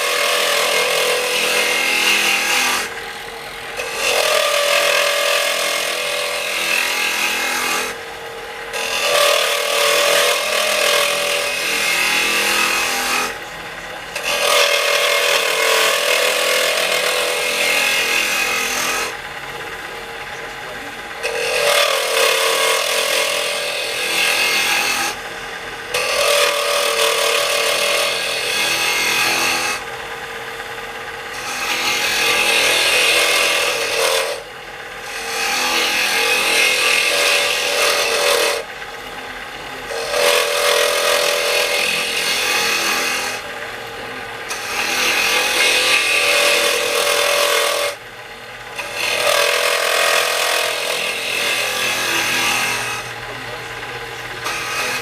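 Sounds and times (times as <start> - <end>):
turning tool scraping wood: 0.0 - 48.0, 48.7 - 55.0
wood lathe spinning: 0.0 - 55.0.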